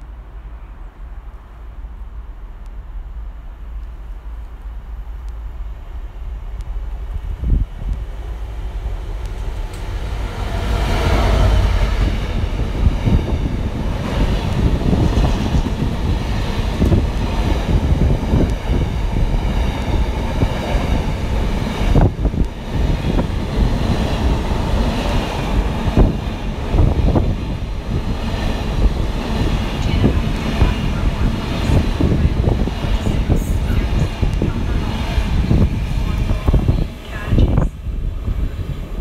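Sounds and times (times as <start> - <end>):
diesel locomotive passing: 0.0 - 39.0
train wheels rumbling on rails: 0.0 - 39.0.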